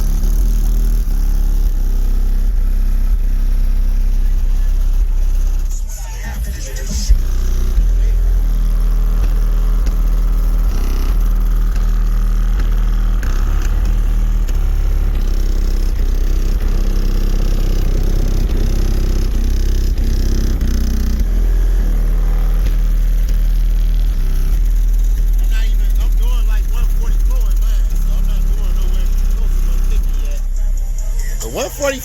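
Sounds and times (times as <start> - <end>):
subwoofer playing heavy bass: 0.0 - 32.0.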